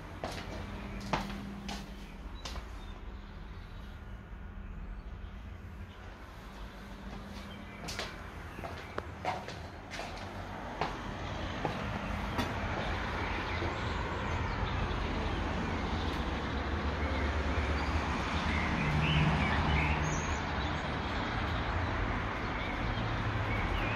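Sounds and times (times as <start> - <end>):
distant road traffic rumbling: 0.0 - 23.9
vehicle passing: 0.0 - 23.9.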